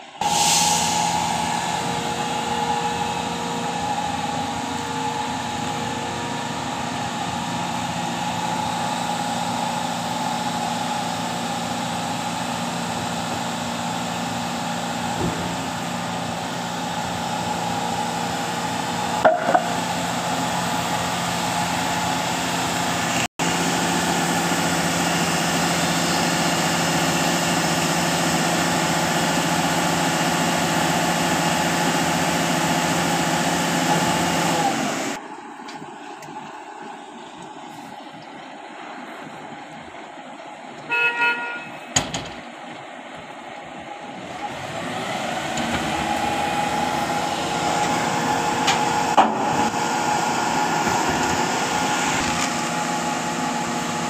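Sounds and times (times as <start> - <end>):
concrete pump engine humming: 0.0 - 54.0.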